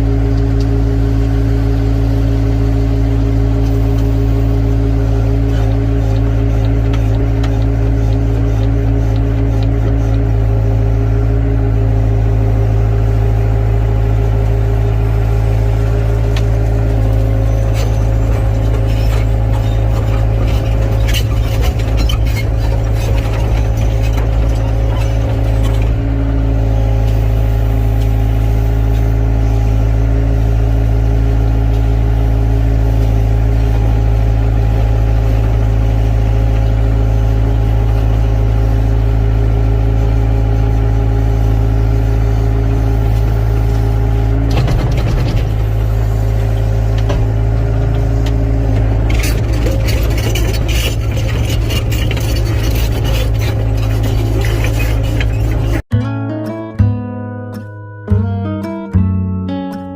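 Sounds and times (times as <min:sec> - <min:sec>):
excavator diesel engine: 0:00.0 - 0:55.9.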